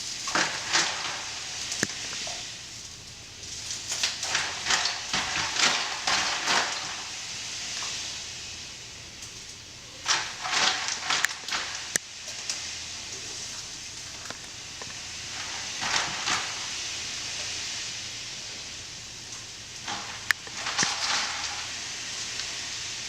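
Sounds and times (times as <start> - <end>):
water splashing and sloshing: 0.0 - 8.4, 9.3 - 17.6, 19.2 - 22.7
steady hiss: 0.0 - 23.0.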